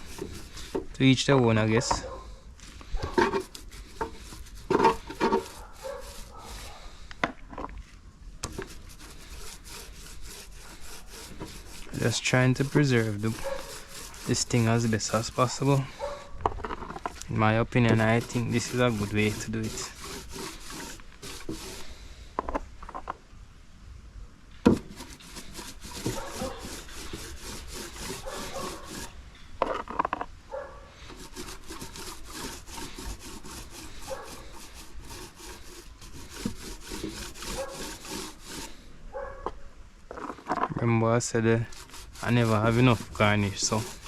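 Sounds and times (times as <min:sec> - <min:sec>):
brush scraping on plywood: 0:00.0 - 0:07.7, 0:08.4 - 0:23.1, 0:24.6 - 0:44.0.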